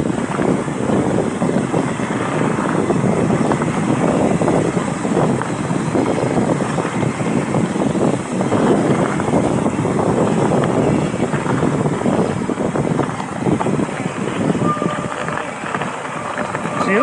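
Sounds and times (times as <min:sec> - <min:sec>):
bike clicks and rattles: 0:00.0 - 0:16.8
wind buffeting microphone: 0:00.0 - 0:17.0.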